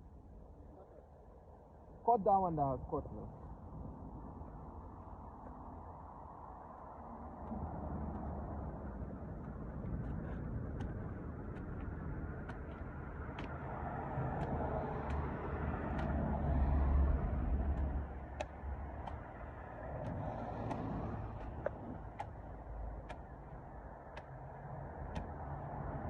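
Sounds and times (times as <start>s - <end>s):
low engine rumble: 2.9s - 26.0s.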